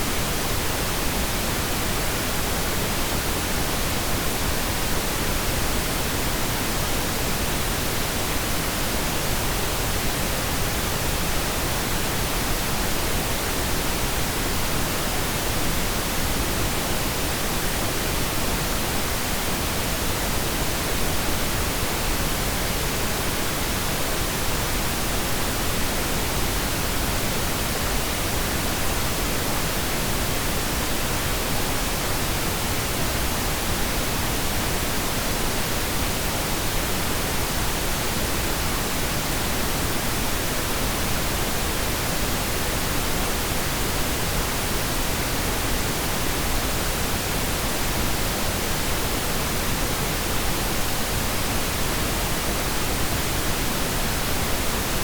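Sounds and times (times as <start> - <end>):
steady pink noise: 0.0 - 55.0.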